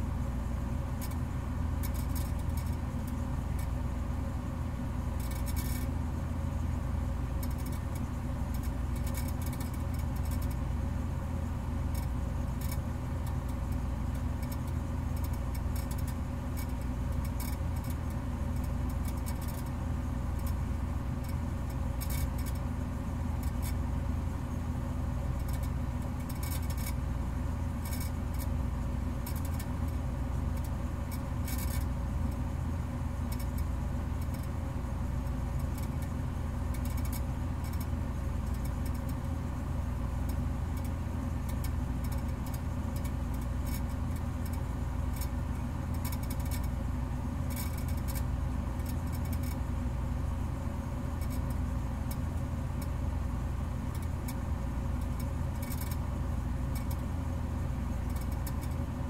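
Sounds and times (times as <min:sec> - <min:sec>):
low mechanical drone: 0:00.0 - 0:59.0.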